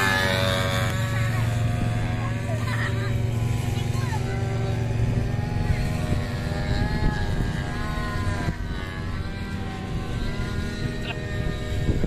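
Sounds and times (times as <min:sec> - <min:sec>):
model aircraft engine overhead: 0:00.0 - 0:12.0.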